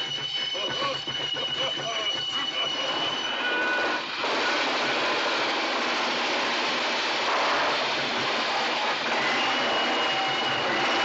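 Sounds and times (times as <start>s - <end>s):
steam train passing: 0.0s - 11.0s
hissing steam: 0.1s - 11.0s.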